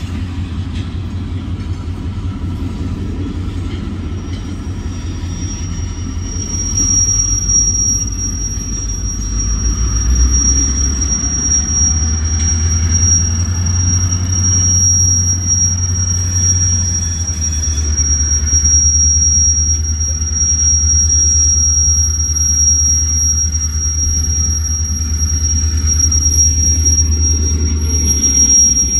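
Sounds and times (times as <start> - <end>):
freight train rumble: 0.0 - 28.9
train wheel squeal: 0.0 - 28.9.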